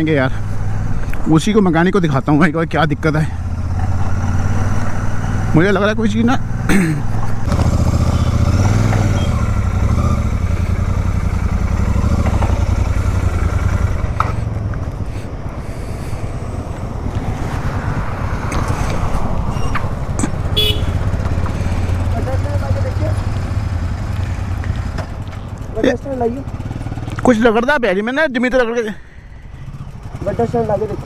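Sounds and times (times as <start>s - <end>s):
motorcycle engine running: 0.0s - 27.8s, 29.0s - 31.0s.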